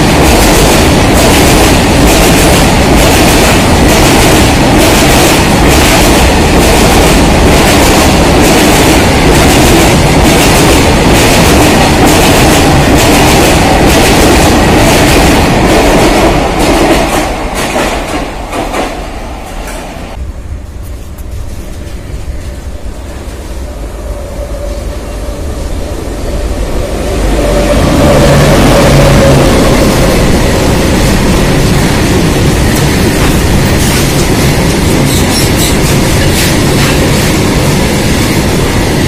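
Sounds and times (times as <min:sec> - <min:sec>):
freight train rushing past: 0:00.0 - 0:39.0.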